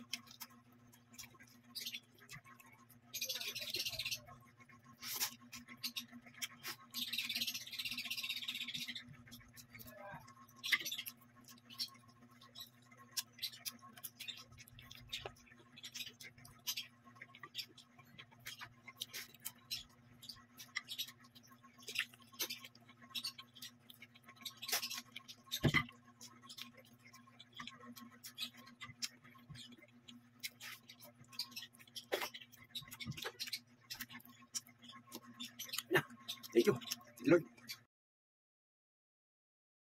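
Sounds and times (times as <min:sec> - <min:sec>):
chewing and mouth smacks: 0:00.0 - 0:03.1, 0:04.5 - 0:07.1, 0:08.8 - 0:37.8.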